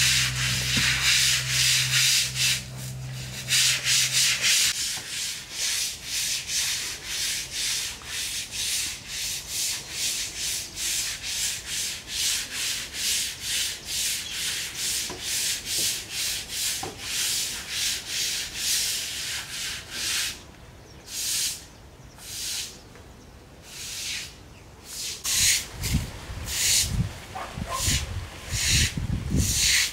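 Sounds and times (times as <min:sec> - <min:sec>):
broom scrubbing wet floor: 0:00.0 - 0:20.4, 0:24.9 - 0:29.9.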